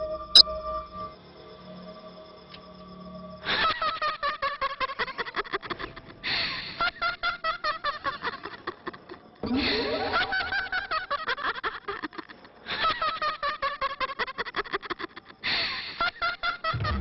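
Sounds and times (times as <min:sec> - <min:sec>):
eerie laughter: 0:03.4 - 0:17.0.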